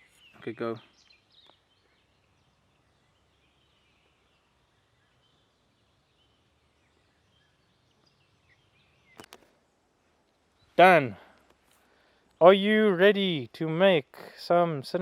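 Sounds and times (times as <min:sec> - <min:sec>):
faint bird chirps: 0:00.0 - 0:12.2
faint outdoor background hiss: 0:00.0 - 0:15.0.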